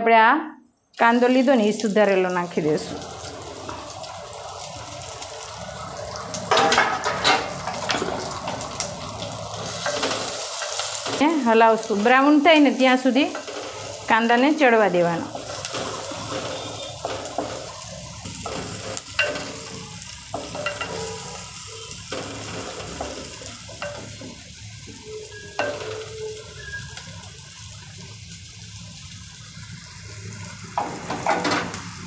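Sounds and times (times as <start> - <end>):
onions sizzling in oil: 0.9 - 32.0.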